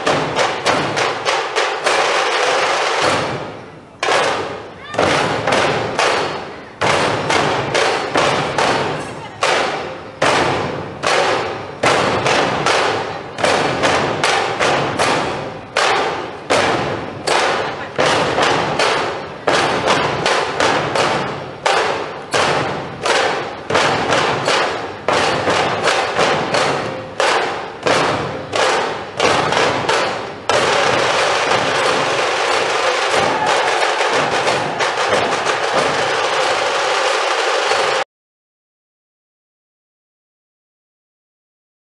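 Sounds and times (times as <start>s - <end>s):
rhythmic percussion strikes: 0.0s - 38.0s.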